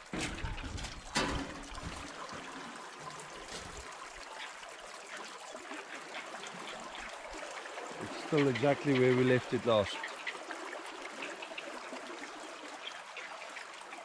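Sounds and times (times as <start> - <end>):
river water rippling against boat: 0.0 - 14.0.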